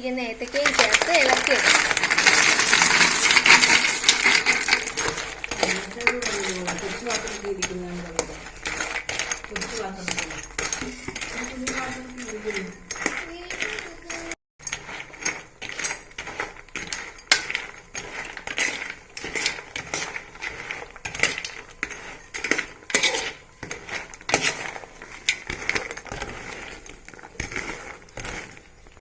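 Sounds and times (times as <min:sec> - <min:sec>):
spoon scraping and clinking pan: 0:00.4 - 0:28.9.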